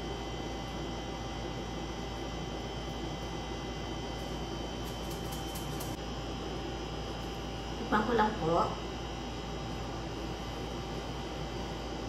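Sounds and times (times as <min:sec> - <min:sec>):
electrical hum with hiss: 0:00.0 - 0:12.0.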